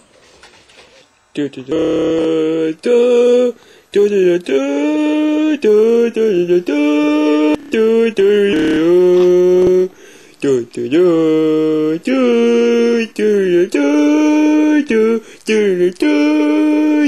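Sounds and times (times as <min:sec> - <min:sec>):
boy singing wordless tune: 0:01.4 - 0:17.0.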